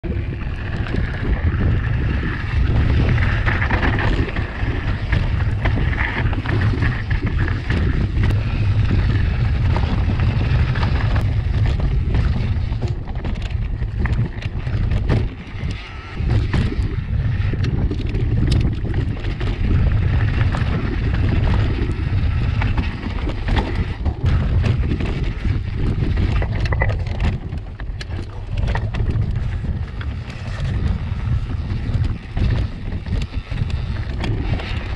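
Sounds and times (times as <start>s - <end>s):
bike clicking and rattling: 0.0s - 34.9s
wind buffeting microphone: 0.0s - 34.9s.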